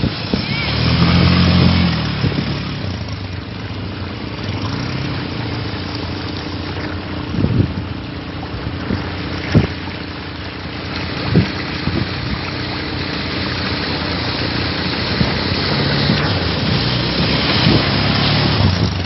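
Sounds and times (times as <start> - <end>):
quad bike engines running: 0.0 - 19.0
water rushing and splashing: 0.0 - 19.0.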